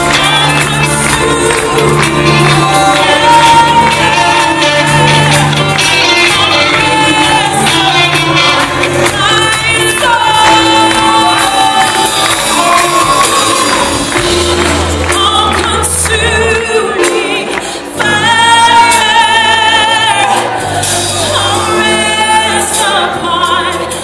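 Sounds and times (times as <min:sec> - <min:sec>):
bass: 0:00.0 - 0:24.0
woman singing gospel: 0:00.0 - 0:24.0.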